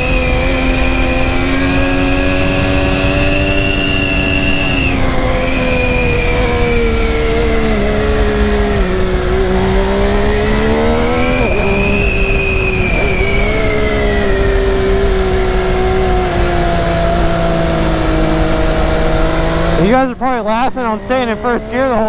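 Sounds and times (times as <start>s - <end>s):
motorcycle engine revving: 0.0s - 22.0s
wind noise: 0.0s - 22.0s.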